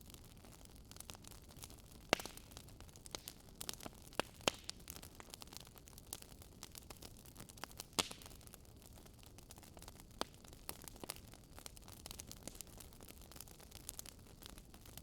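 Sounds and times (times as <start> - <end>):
wood fire crackling: 0.0 - 15.0
sharp pops of burning wood: 0.2 - 15.0.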